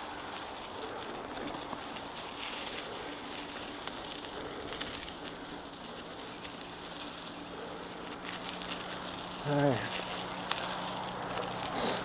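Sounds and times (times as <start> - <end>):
bicycle tyres on dirt trail: 0.0 - 12.0
bike clicks and rattles: 0.0 - 12.0.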